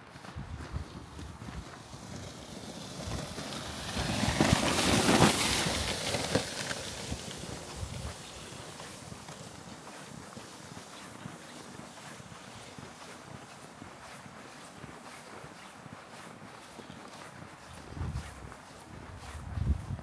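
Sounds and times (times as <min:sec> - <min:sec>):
footsteps crunching in snow: 0:00.0 - 0:20.0.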